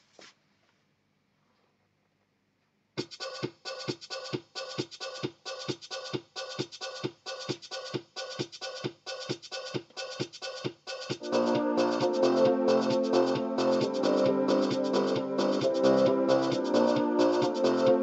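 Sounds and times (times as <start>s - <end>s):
electronic drum beat: 3.0s - 18.0s.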